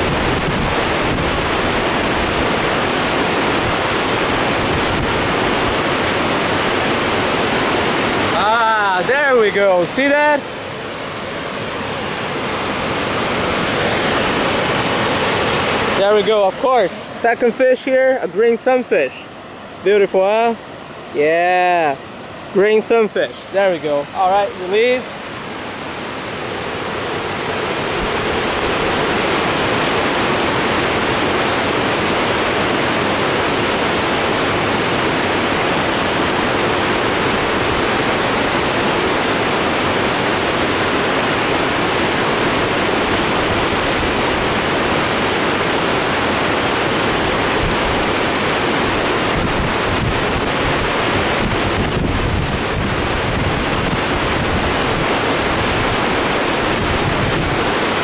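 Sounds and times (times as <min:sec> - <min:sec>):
turbulent creek water churning: 0:00.0 - 0:58.0.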